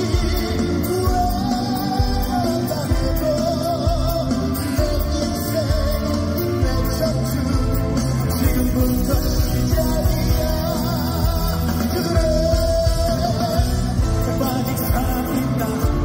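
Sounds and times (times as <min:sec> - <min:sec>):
man singing with live band: 0:00.0 - 0:16.0.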